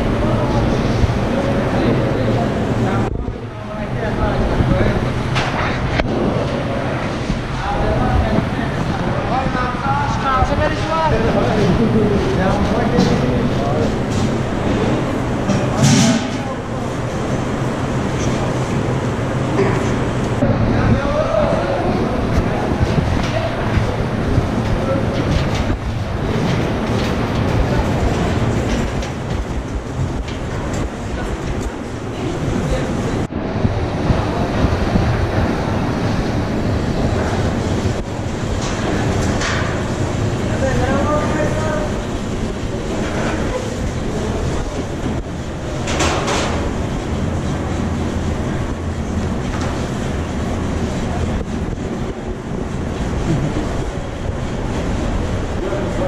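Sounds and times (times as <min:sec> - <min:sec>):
factory machinery rumbling: 0:00.0 - 0:56.0
machinery clatter and knocks: 0:04.2 - 0:21.0, 0:21.9 - 0:56.0.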